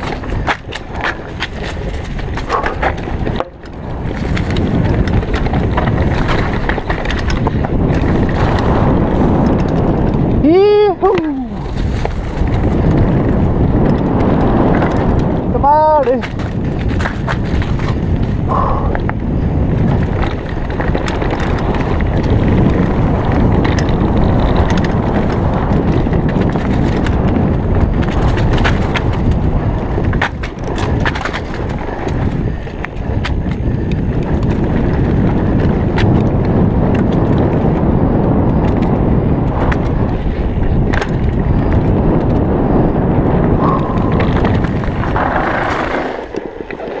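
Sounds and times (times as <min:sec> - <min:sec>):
bike clicks and knocks on bumps: 0:00.0 - 0:47.0
bike tyres rumbling on dirt: 0:00.0 - 0:47.0.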